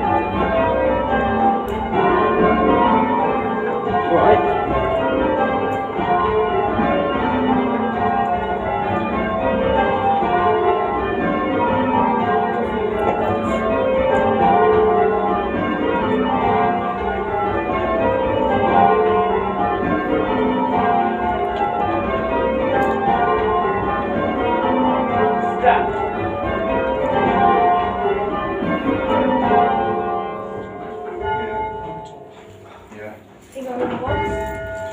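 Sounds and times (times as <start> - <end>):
church bells ringing in rounds: 0.0 - 34.9.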